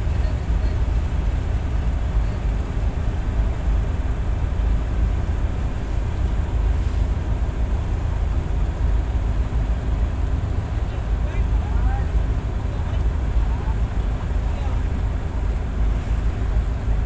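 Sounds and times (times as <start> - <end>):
diesel engines rumbling: 0.0 - 17.0.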